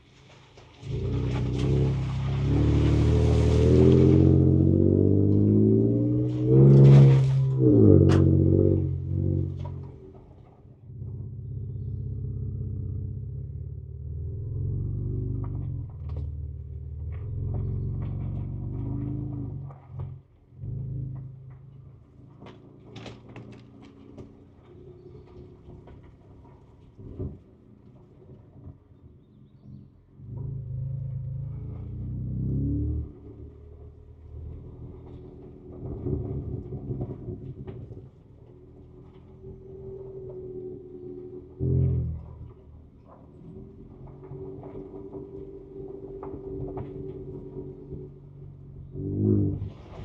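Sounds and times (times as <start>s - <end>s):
truck clunking over rough ground: 0.0s - 11.9s, 14.0s - 29.7s, 30.3s - 50.0s
car engine accelerating: 0.0s - 50.0s.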